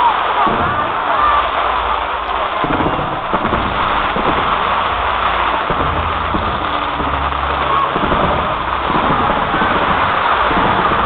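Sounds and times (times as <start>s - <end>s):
fireworks fountains hissing: 0.0s - 11.0s.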